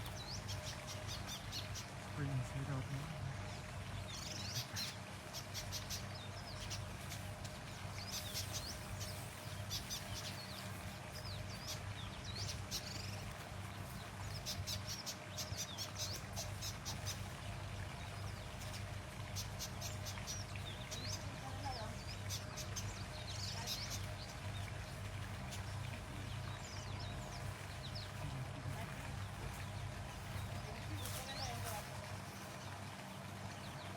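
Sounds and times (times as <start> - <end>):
birds chattering and chirping: 0.0 - 33.9.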